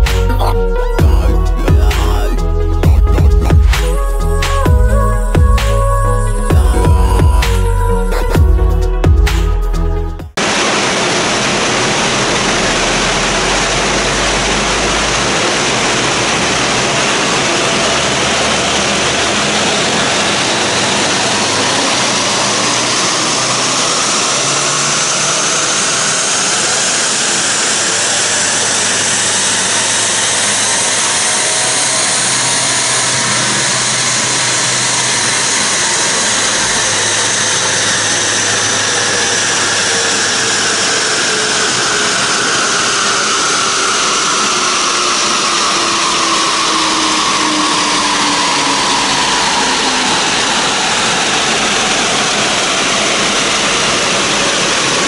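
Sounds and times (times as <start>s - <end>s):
rising whine: 0.0s - 55.0s.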